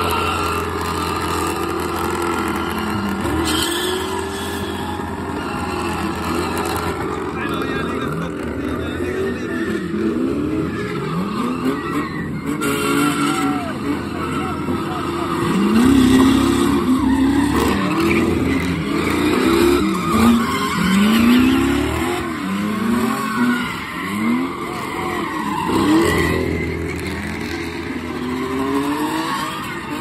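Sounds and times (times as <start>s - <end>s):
car engines revving: 0.0s - 30.0s
tyres squealing: 0.0s - 30.0s.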